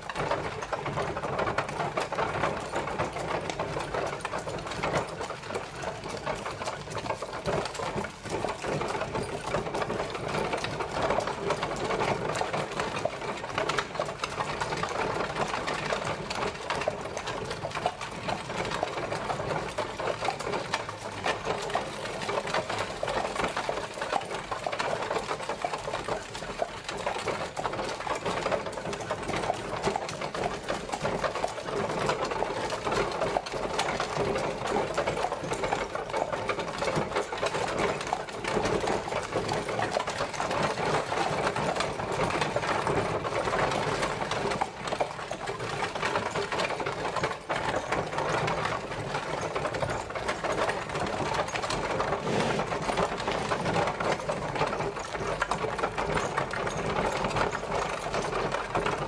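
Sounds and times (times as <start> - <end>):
carriage wheels clattering: 0.0 - 59.0
horse hooves: 0.0 - 59.0.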